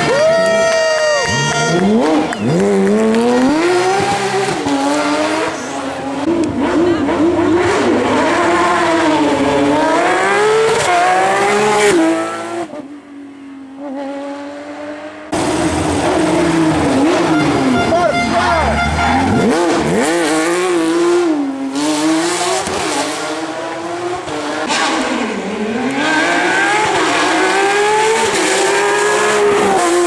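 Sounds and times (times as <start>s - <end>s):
rally car engine at high revs: 1.2s - 30.0s.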